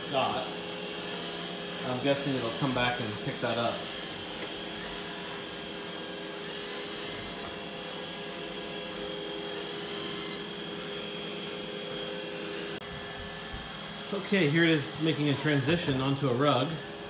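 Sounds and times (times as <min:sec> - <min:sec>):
robot vacuum humming: 0:00.0 - 0:17.0.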